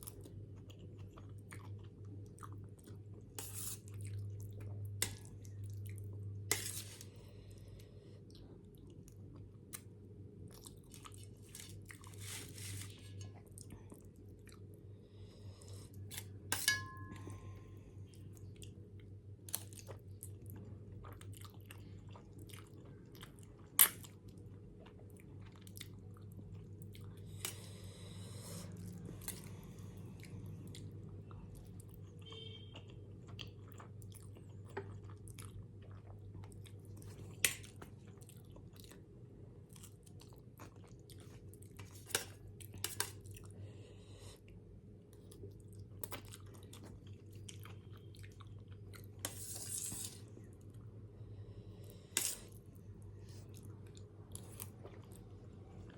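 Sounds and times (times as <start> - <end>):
chewing noodles: 0.0 - 6.2, 8.2 - 14.8, 18.1 - 43.6, 44.2 - 50.9
low steady hum: 0.0 - 55.9.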